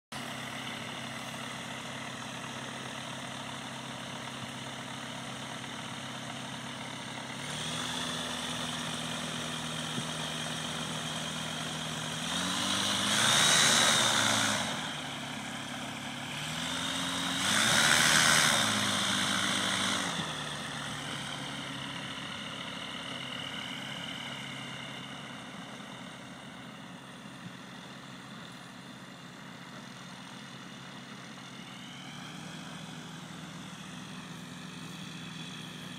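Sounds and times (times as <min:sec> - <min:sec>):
propeller aircraft engine revving: 0:00.1 - 0:35.9.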